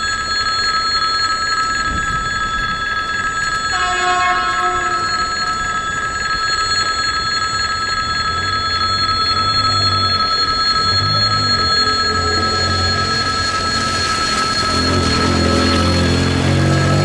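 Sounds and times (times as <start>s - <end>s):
crossing warning bell ringing: 0.0s - 17.0s.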